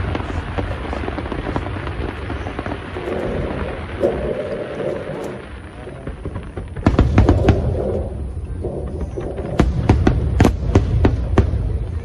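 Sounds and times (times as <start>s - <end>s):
fireworks popping and crackling: 0.0s - 12.0s
low rumble of booms: 0.0s - 12.0s.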